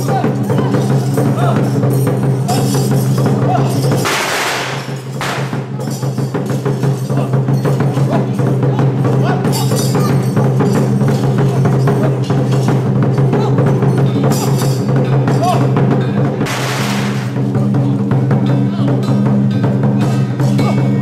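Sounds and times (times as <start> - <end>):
cymbal clashes: 0.0 - 21.0
fast drum beating: 0.0 - 21.0.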